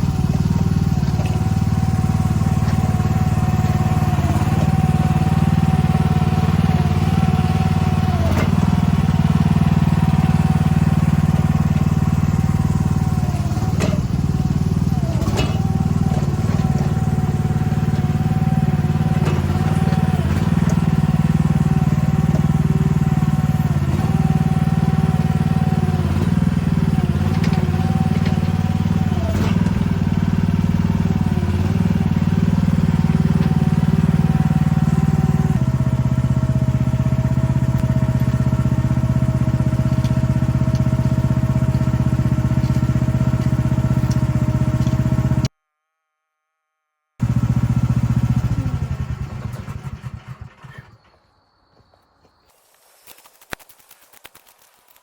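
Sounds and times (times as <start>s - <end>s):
excavator engine running: 0.0s - 45.5s, 47.2s - 51.9s.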